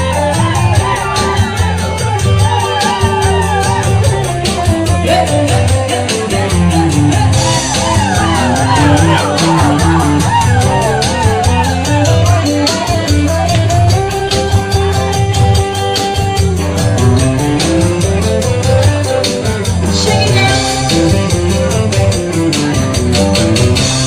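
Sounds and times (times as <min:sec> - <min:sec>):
guitar music with steady beat: 0:00.0 - 0:24.0.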